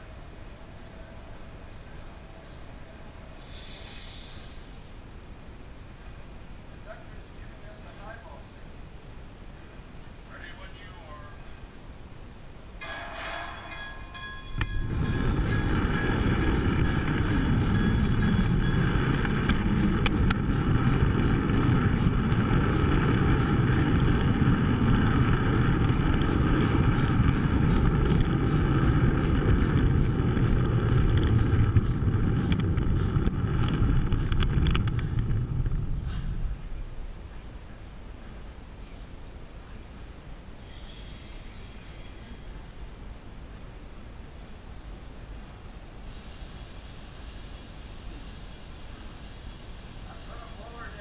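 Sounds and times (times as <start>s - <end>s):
train wheels rumbling on rails: 0.0s - 8.7s, 12.7s - 51.0s
steady humming tone: 0.0s - 51.0s.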